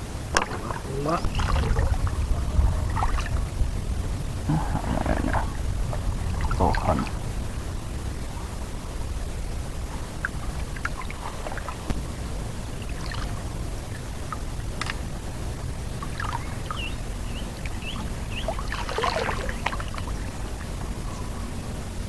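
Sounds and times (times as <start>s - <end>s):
water sloshing and splashing: 0.0s - 9.0s, 9.6s - 21.4s
steady low rumble: 0.0s - 22.0s.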